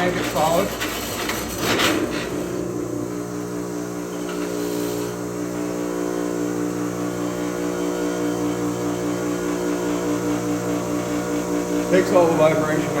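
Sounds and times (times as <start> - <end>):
bench grinder motor humming: 0.0 - 13.0.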